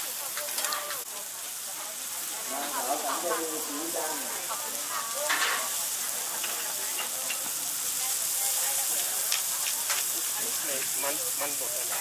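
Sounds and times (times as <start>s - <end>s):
burger sizzling on griddle: 0.0s - 12.0s.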